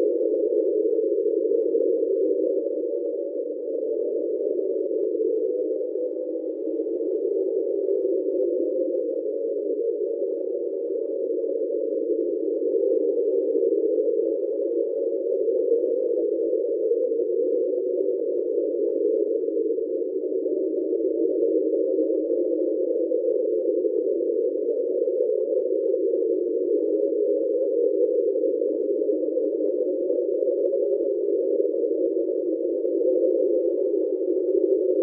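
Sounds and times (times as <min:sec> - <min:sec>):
underwater steady hum: 0:00.0 - 0:35.0.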